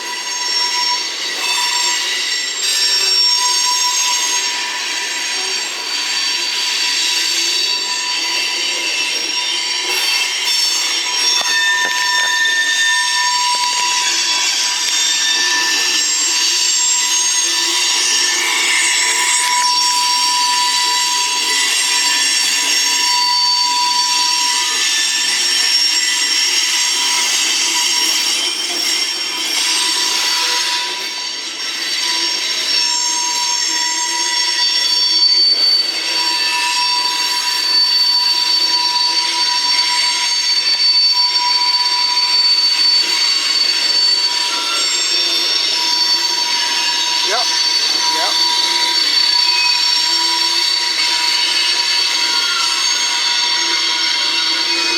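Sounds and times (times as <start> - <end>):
train wheels squealing: 0.0 - 54.9.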